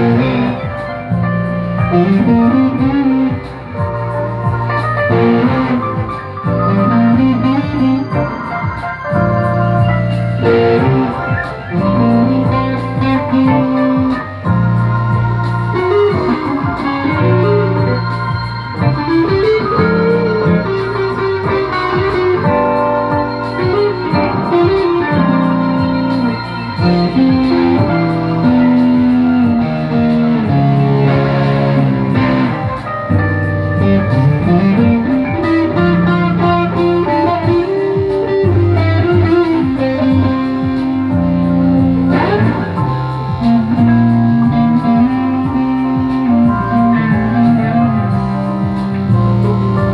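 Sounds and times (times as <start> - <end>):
guitar: 0.0 - 49.9
organ-like keyboard: 0.0 - 49.9.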